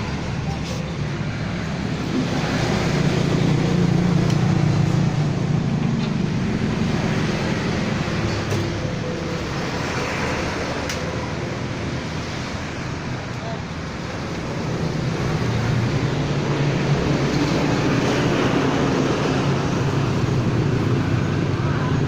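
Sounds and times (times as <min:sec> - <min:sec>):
rumble of passing vehicles: 0:00.0 - 0:22.0.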